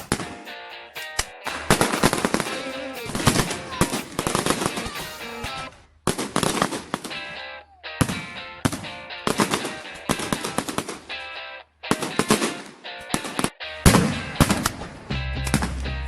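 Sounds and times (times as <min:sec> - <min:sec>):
music: 0:00.0 - 0:05.7, 0:07.2 - 0:16.0.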